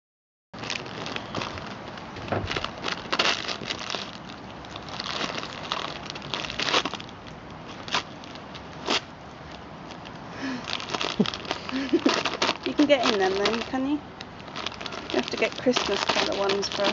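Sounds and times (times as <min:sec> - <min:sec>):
dog chewing paper bag: 0:00.6 - 0:16.9
paper crinkling and crackling: 0:00.6 - 0:16.9.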